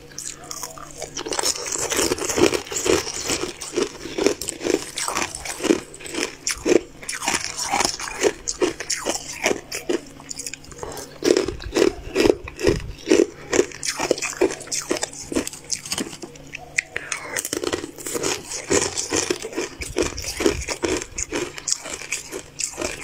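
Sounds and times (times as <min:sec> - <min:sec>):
mouth crunching hard sweets: 0:00.0 - 0:23.0.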